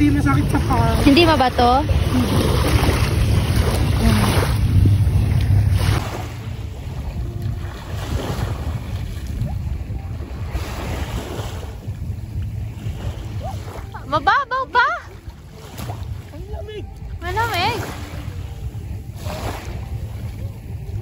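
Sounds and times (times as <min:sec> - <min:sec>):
small waves washing ashore: 0:00.0 - 0:21.0
wind buffeting microphone: 0:00.0 - 0:21.0.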